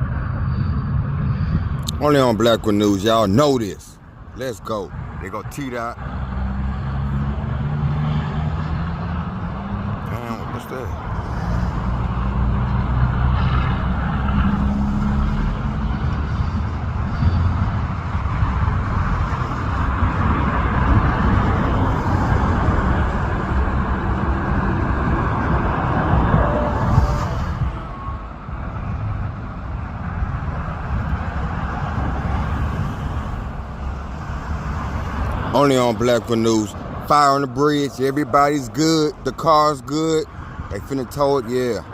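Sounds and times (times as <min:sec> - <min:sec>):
engine hum: 0:00.0 - 0:41.9
road and tyre noise: 0:00.0 - 0:41.9.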